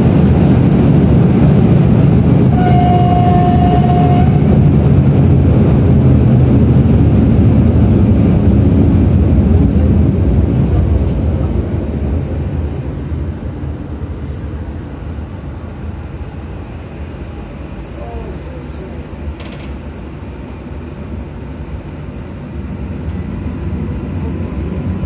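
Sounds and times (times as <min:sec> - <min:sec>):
train rumbling on track: 0:00.0 - 0:25.0
wheel and rail noise: 0:00.0 - 0:25.0.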